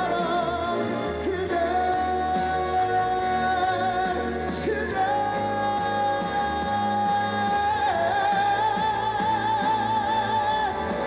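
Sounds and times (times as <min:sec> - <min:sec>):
backing track with steady beat: 0:00.0 - 0:11.0.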